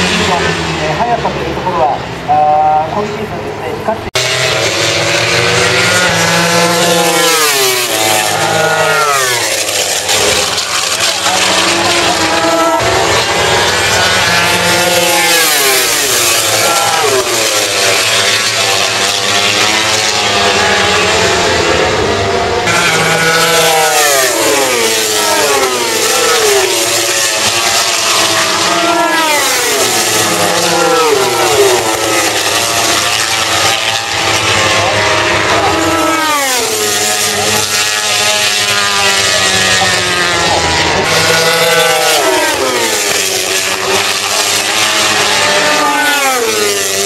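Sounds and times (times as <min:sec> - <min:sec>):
racing motorcycles passing: 0:00.0 - 0:47.0.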